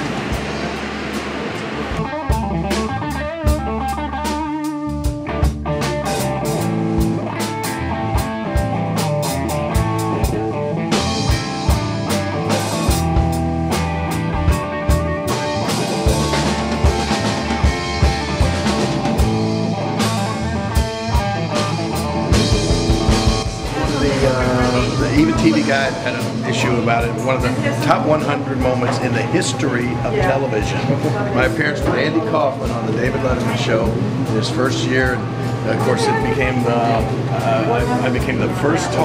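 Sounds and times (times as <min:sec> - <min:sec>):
rock music with guitar and drums: 0:00.0 - 0:39.0.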